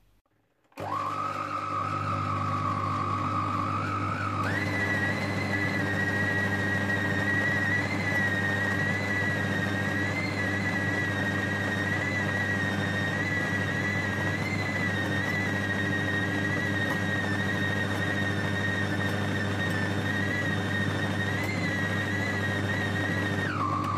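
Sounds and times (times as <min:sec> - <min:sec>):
food processor motor whining: 0:00.6 - 0:23.9.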